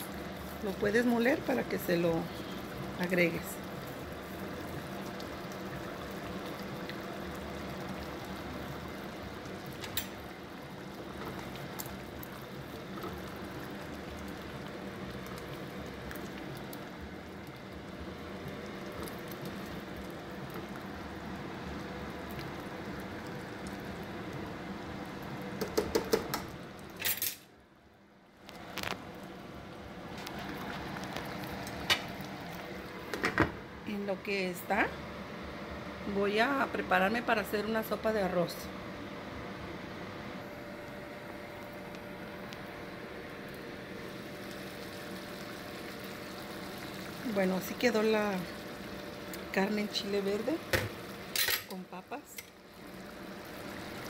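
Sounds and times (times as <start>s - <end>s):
stew bubbling in a pot: 0.0s - 27.0s, 28.2s - 33.8s, 40.5s - 54.0s.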